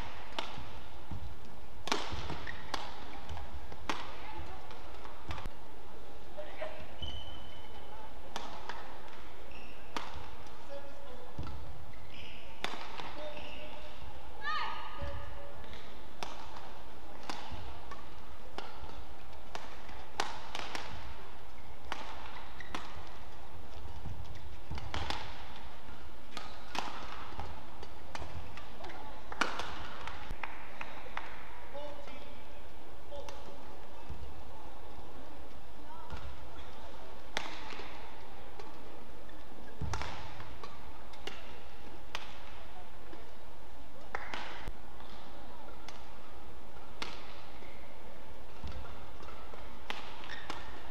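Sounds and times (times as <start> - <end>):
rackets hitting shuttlecock: 0.0 - 5.6, 6.9 - 14.0, 14.8 - 32.4, 33.2 - 34.2, 35.4 - 43.3, 44.0 - 50.9.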